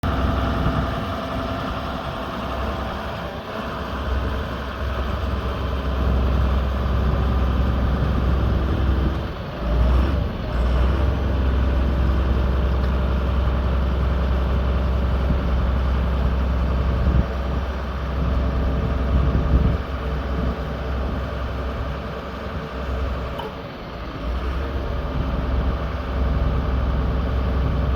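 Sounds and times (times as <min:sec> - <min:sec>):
truck diesel engine idling: 0:00.0 - 0:27.9.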